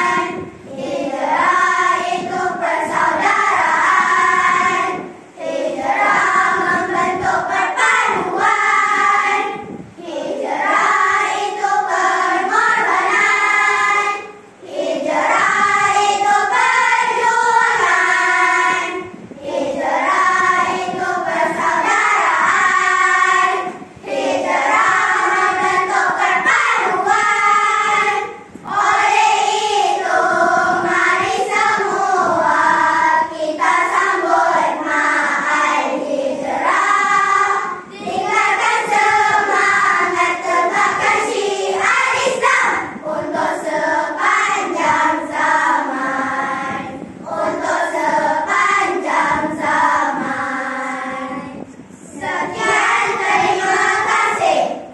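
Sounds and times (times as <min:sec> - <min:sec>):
children singing in unison: 0:00.0 - 0:54.9.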